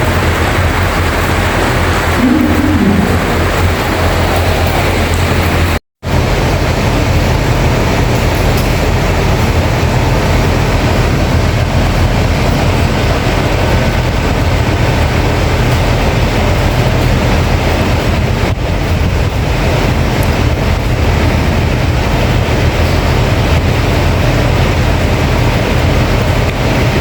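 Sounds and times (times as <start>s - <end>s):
heavy rain hiss: 0.0s - 27.0s
low rumble: 0.9s - 26.3s.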